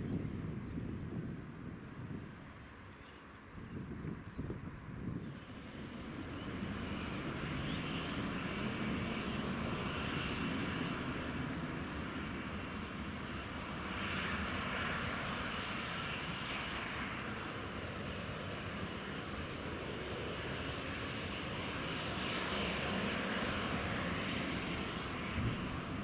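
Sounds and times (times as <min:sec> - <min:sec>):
airliner engines running: 0:00.0 - 0:26.0.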